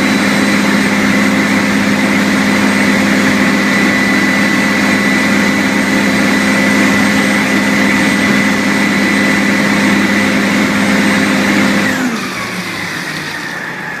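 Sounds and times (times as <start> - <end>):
fire truck engine whining: 0.0 - 14.0.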